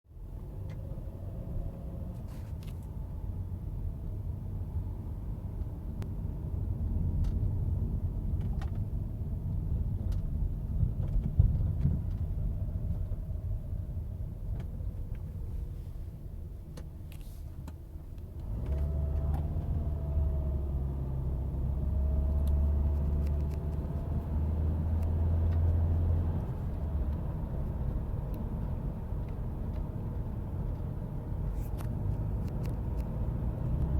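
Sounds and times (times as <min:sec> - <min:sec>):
car road and engine rumble: 0:00.1 - 0:33.9.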